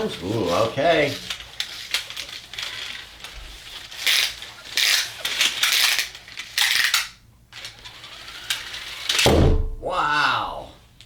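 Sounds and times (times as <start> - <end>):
toy cars whirring and rattling: 0.0 - 9.3.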